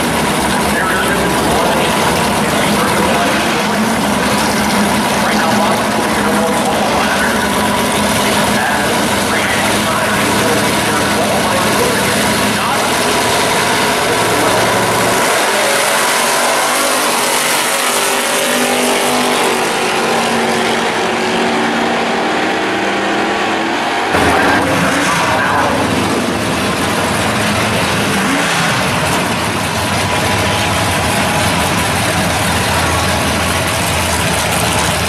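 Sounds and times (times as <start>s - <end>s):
car engines revving: 0.0s - 35.0s
drag racing car accelerating: 0.0s - 35.0s.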